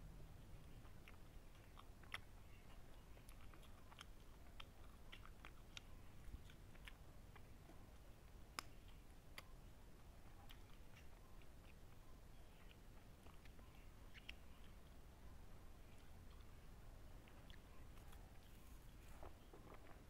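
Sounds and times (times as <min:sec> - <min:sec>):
soft wet chewing: 0:00.2 - 0:20.0.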